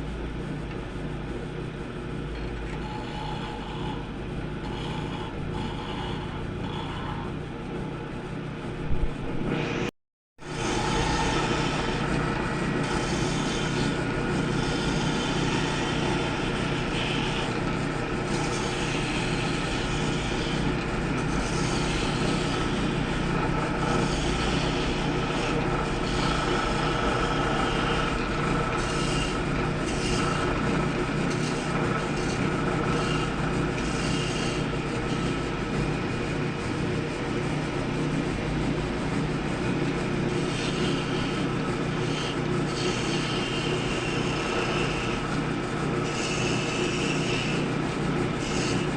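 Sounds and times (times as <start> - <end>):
wood lathe running: 2.6 - 8.0, 10.5 - 48.9.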